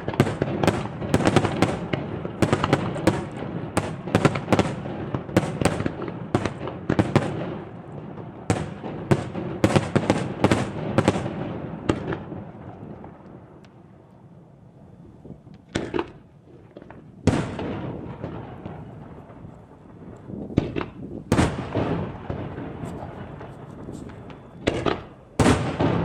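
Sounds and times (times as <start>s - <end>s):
fireworks bangs: 0.0s - 13.7s, 15.6s - 26.0s
fireworks rumble: 0.0s - 26.0s.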